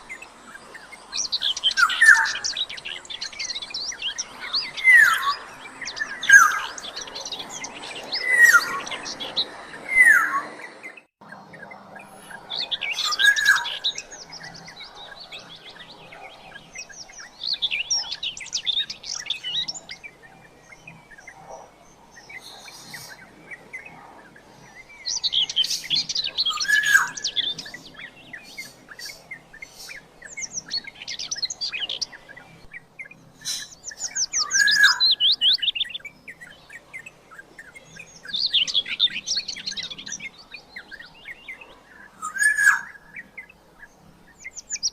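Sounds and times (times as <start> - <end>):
bird calling: 0.0 - 43.6.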